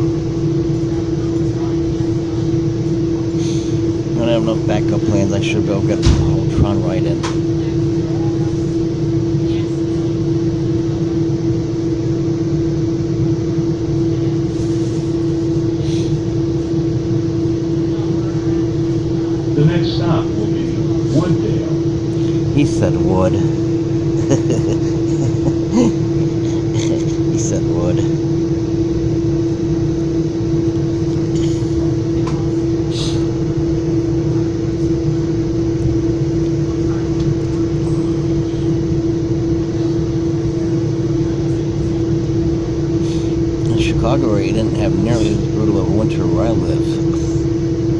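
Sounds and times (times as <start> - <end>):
train car hum and rumble: 0.0 - 47.9.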